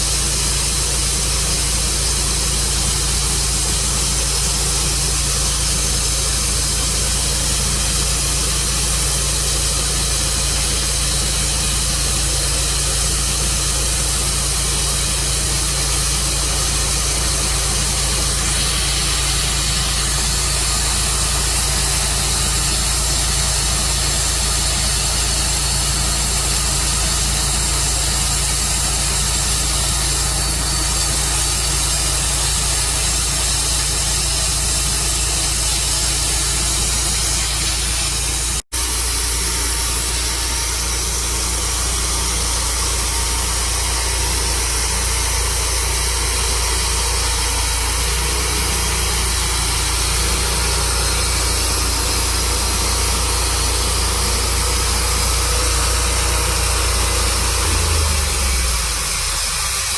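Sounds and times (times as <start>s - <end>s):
sawmill running: 0.0s - 59.9s.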